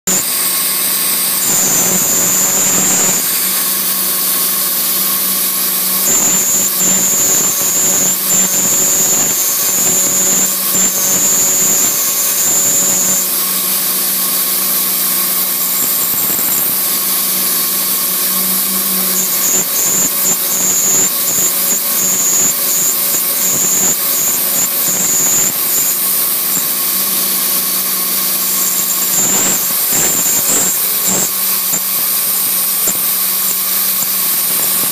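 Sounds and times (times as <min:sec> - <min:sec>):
high-pitched squeal: 0:00.0 - 0:34.9
milling spindle whine and cutting hiss: 0:00.1 - 0:34.9.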